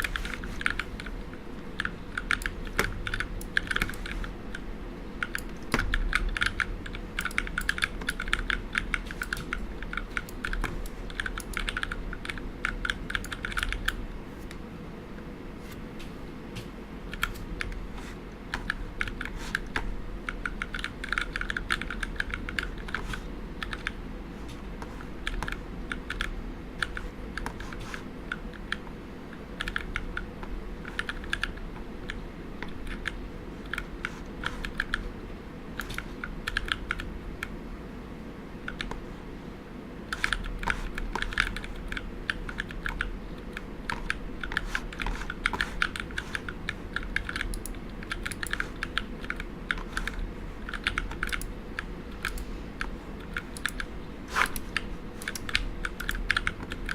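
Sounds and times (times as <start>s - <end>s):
mechanical keyboard typing: 0.0s - 4.6s, 5.2s - 14.0s, 18.5s - 24.0s, 25.2s - 28.8s, 29.4s - 35.1s, 35.8s - 37.5s, 38.7s - 39.0s, 40.1s - 56.9s.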